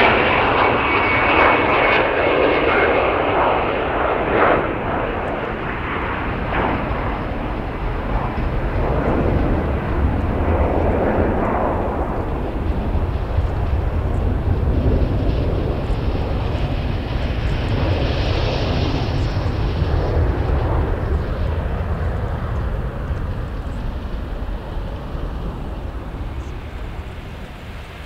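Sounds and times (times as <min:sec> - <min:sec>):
jet engines rumbling at takeoff: 0:00.0 - 0:28.0.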